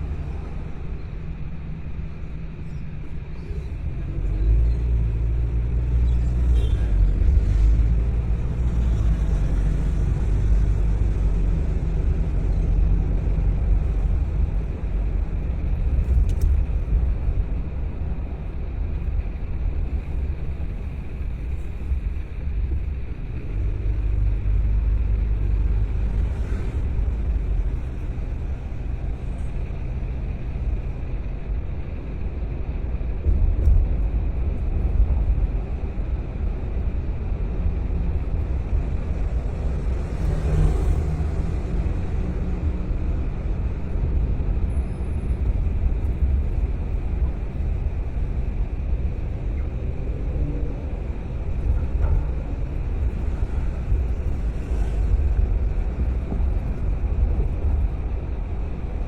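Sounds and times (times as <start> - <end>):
car engine rumble: 0.0 - 59.0
tyres on road: 0.0 - 59.0.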